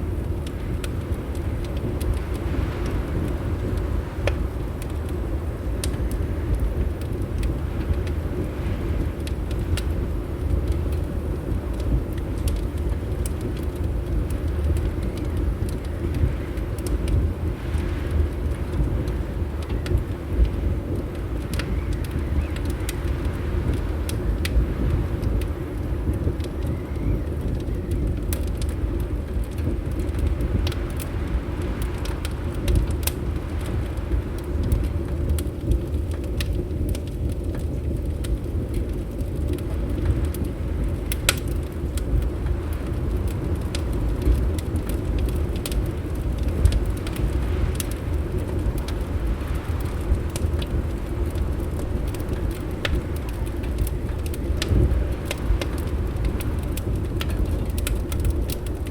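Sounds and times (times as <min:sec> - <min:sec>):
fire crackling: 0:00.0 - 0:58.9
low rumble of wind: 0:00.0 - 0:58.9
sharp pops of fire: 0:10.6 - 0:58.9.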